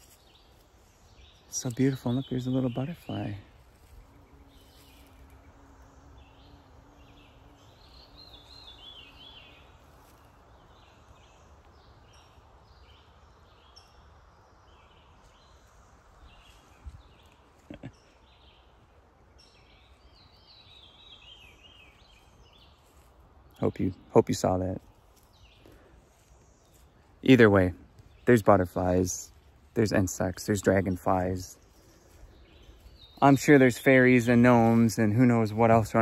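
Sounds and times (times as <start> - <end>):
songbirds chirping: 0.0 - 36.0.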